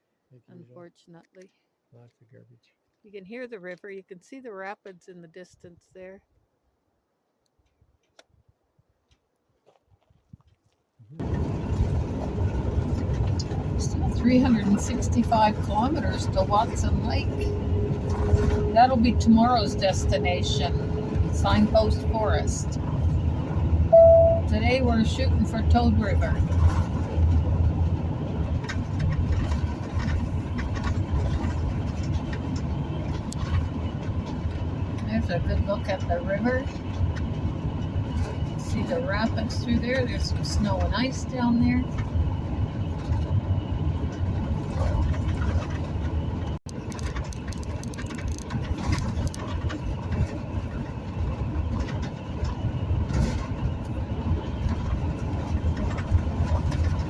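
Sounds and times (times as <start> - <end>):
vehicle engine and road rumble: 0.2 - 6.3, 11.0 - 57.0.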